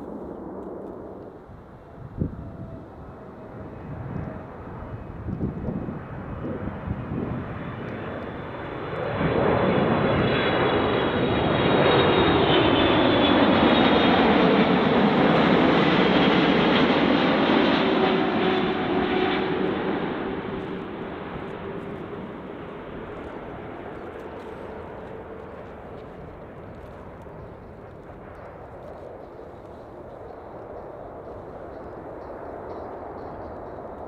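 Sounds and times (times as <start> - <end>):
airliner engine noise overhead: 0.0 - 34.0.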